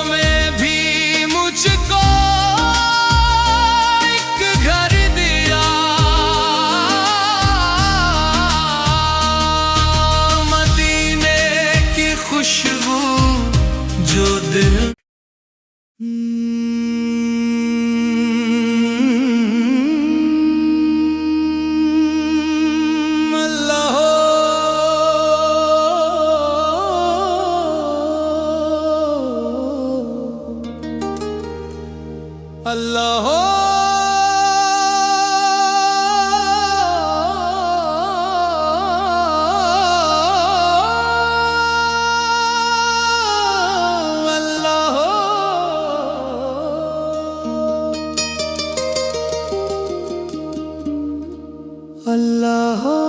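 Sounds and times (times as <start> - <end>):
voice holding long notes: 0.0 - 15.0, 16.0 - 31.0, 32.6 - 53.0.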